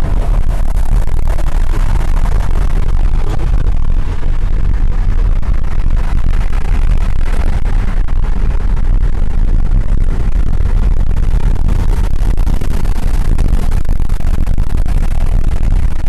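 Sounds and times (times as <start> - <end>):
road and wind noise inside car: 0.0 - 16.0.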